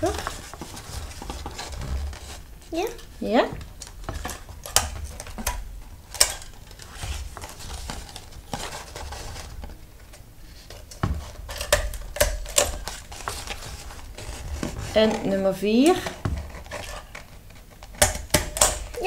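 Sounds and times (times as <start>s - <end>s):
paper plate handled: 0.0s - 5.5s, 6.2s - 18.0s.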